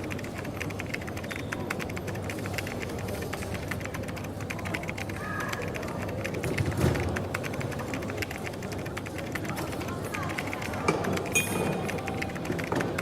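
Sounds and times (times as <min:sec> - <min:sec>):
keyboard typing: 0:00.0 - 0:13.0
murmur of cafe voices: 0:00.0 - 0:13.0.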